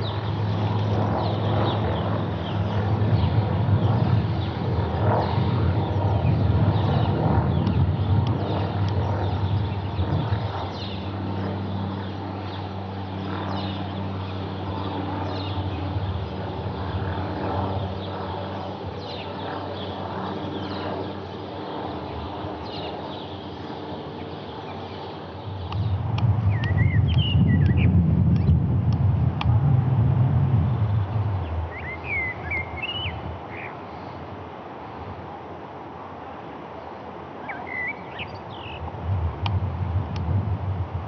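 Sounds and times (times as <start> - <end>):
birds chirping: 0.0 - 28.5, 30.7 - 34.1, 37.4 - 38.9
propeller aircraft droning: 0.0 - 41.0.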